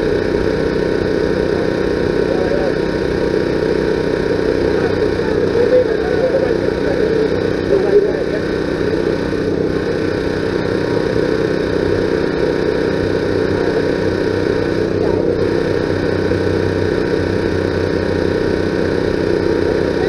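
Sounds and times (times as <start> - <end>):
steady mechanical drone: 0.0 - 20.0.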